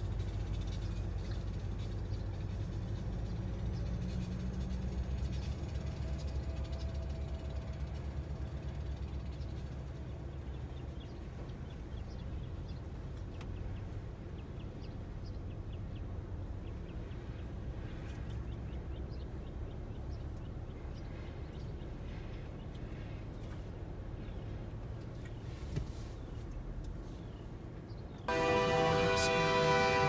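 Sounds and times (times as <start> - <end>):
freight train rumbling: 0.0 - 25.6, 26.2 - 30.0.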